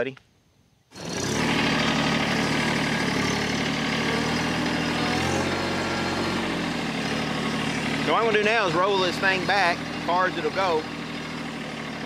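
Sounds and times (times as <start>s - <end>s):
tractor diesel engine running: 0.9s - 12.0s.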